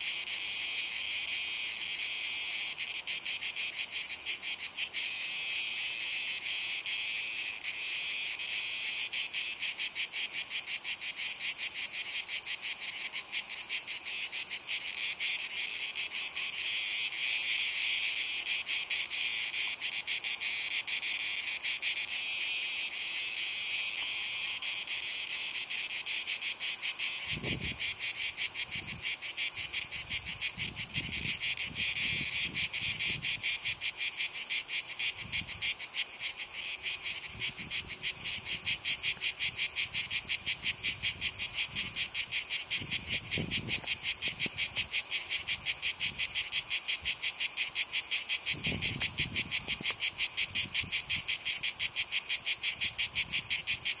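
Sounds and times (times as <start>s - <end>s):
cicadas singing: 0.0s - 54.0s.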